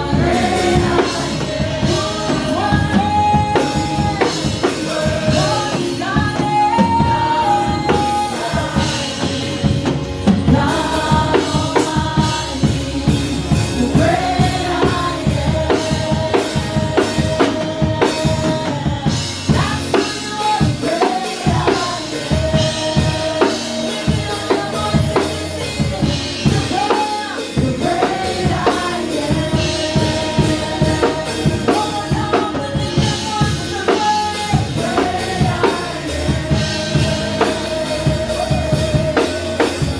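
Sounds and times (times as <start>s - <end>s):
drum kit beat: 0.0s - 39.9s
worship band music: 0.0s - 39.9s.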